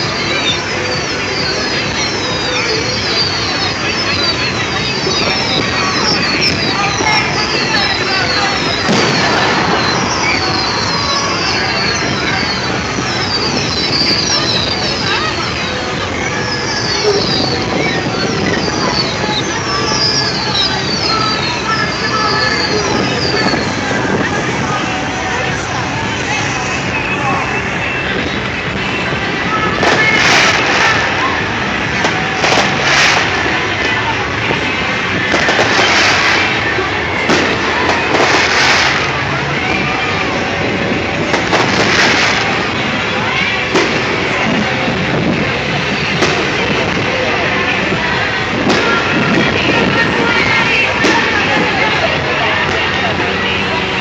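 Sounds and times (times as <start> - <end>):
fireworks din: 0.0 - 54.0
fireworks whistling: 0.0 - 54.0.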